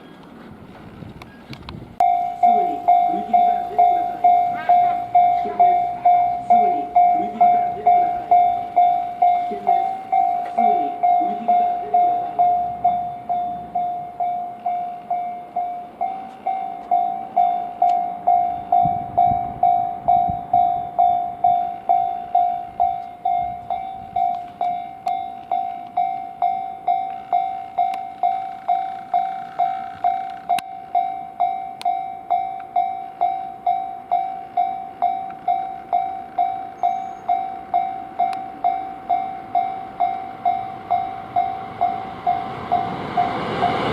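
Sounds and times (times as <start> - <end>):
train passing with low rumble: 0.0 - 43.9
level crossing warning bell ringing: 2.0 - 43.9.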